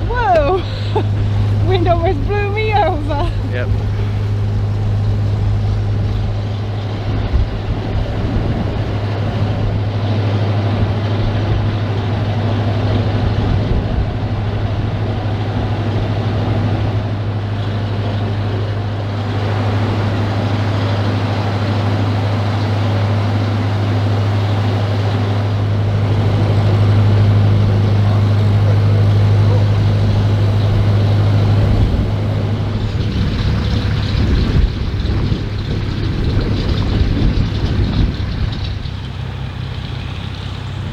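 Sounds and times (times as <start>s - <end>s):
diesel engine running: 0.0s - 40.9s
wind buffeting microphone: 0.0s - 40.9s.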